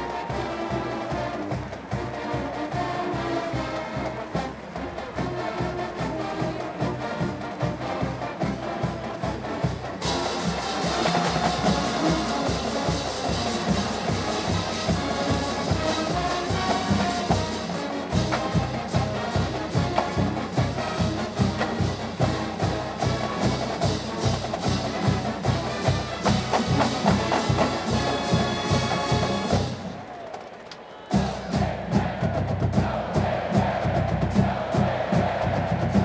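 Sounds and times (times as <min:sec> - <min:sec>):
trumpets: 0:00.0 - 0:35.6
drums with steady beat: 0:00.0 - 0:36.0.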